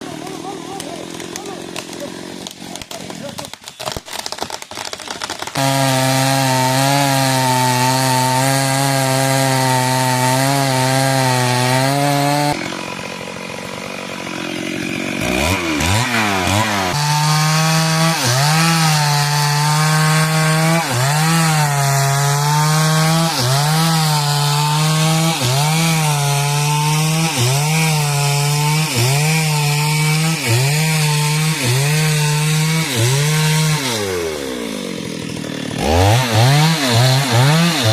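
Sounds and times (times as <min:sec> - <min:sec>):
chainsaw cutting wood: 0:00.0 - 0:37.9.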